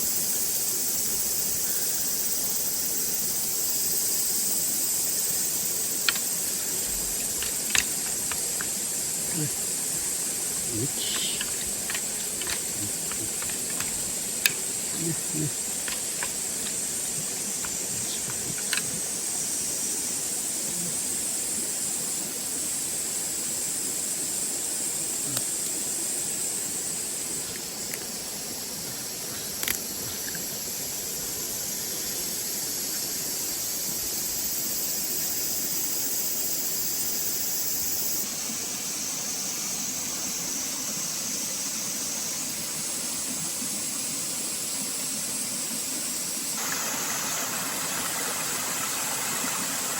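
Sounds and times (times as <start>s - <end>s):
high-pitched insect drone: 0.0s - 49.9s
outdoor hiss: 0.0s - 49.9s.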